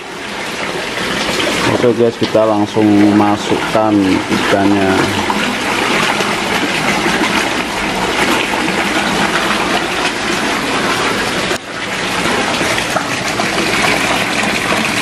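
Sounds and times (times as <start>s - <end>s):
water gushing and splashing into pond: 0.0s - 15.0s.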